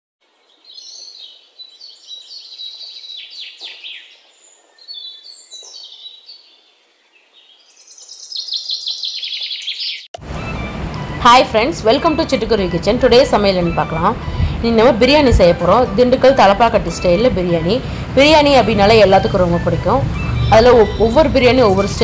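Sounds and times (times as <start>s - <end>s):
songbird warbling: 0.4s - 22.0s.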